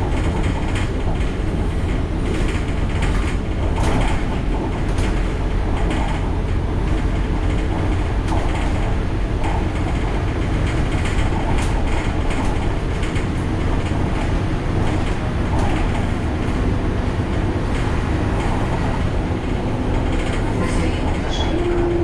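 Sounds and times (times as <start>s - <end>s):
bus body rattling: 0.0s - 22.0s
bus diesel engine running: 0.0s - 22.0s
road noise: 0.0s - 22.0s.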